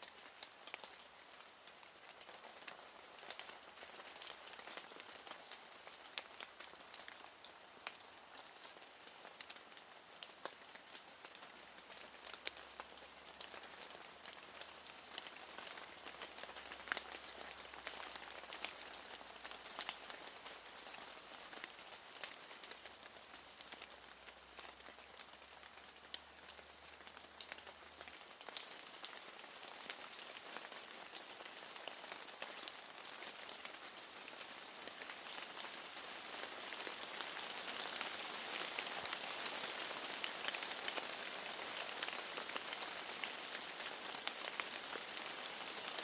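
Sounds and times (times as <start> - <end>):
raindrops ticking: 0.0 - 46.0
steady rain hissing: 0.0 - 46.0.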